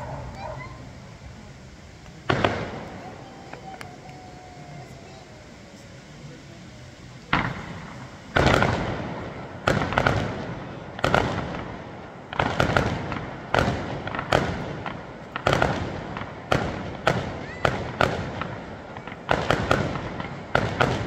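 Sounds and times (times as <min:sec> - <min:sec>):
fireworks bursting with echo: 0:00.0 - 0:21.0.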